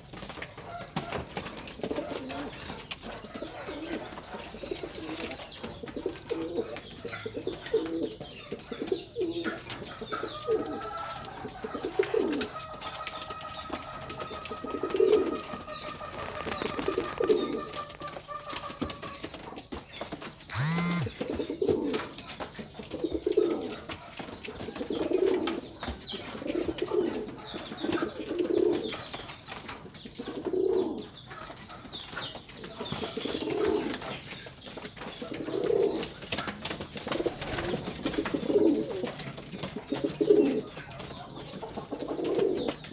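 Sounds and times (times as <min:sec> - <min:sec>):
pigeons cooing: 0:00.0 - 0:19.8, 0:20.5 - 0:34.3, 0:34.9 - 0:42.9.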